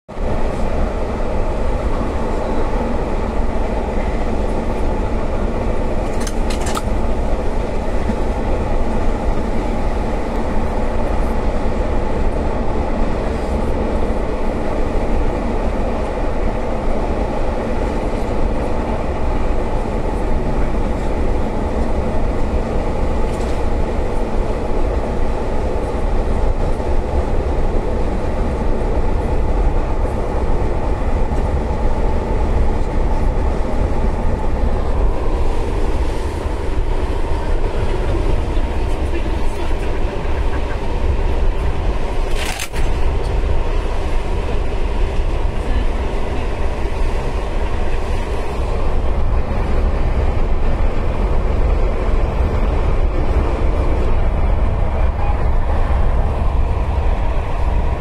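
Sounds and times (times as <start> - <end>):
train carriage rumble and rattle: 0.0 - 58.0.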